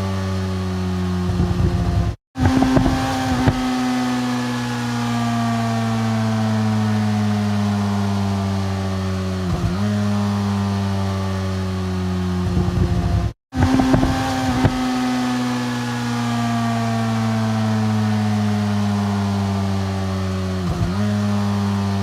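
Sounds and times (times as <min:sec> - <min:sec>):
motorcycle engine decelerating: 0:00.0 - 0:22.0.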